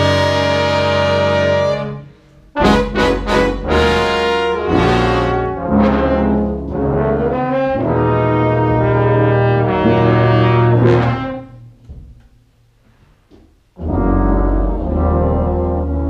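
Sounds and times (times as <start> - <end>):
brass ensemble playing: 0.0 - 11.8, 13.8 - 16.0.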